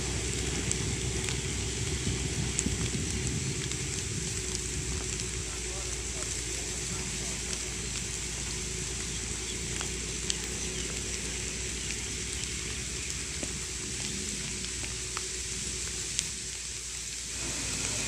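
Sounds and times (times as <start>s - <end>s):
faint train hum: 0.0s - 18.0s
rain falling: 0.0s - 18.0s
ticks of raindrops: 0.0s - 18.0s.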